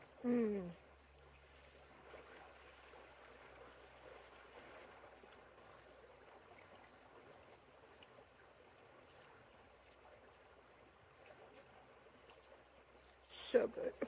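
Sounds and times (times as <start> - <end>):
faint creek water flowing: 0.0 - 14.0.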